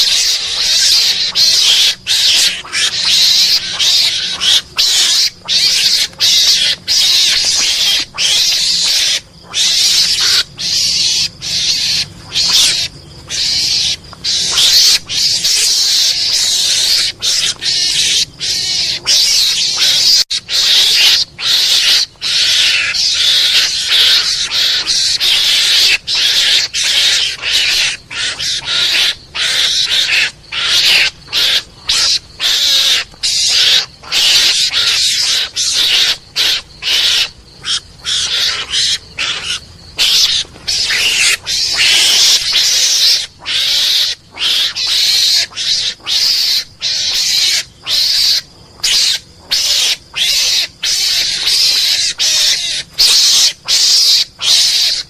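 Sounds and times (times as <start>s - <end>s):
mongoose chattering calls: 0.0s - 55.0s.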